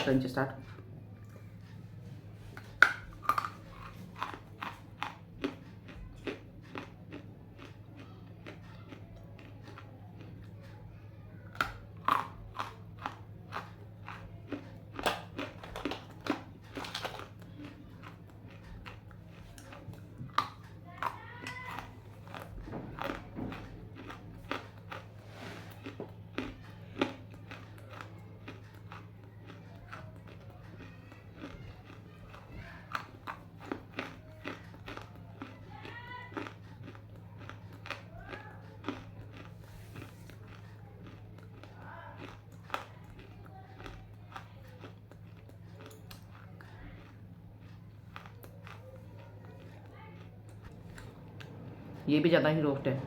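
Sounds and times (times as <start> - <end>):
crunchy chewing: 0.1 - 52.0
loud crunching bite: 2.6 - 10.4, 11.5 - 35.6, 36.3 - 51.5.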